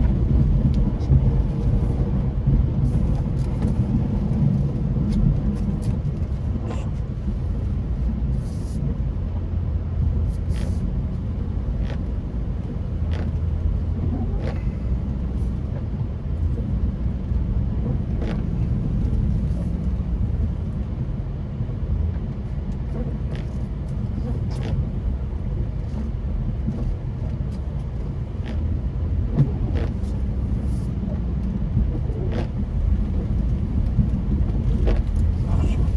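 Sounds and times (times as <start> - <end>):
truck engine rumble: 0.0 - 35.9.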